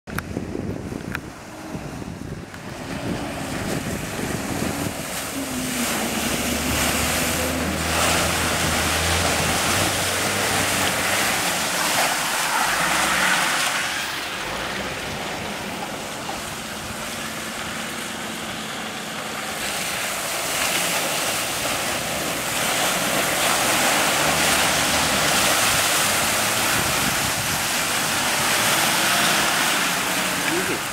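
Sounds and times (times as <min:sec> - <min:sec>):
off-road vehicle engine running: 0:00.1 - 0:30.9
water splashing and flowing: 0:00.1 - 0:30.9
wind noise on microphone: 0:00.1 - 0:30.9.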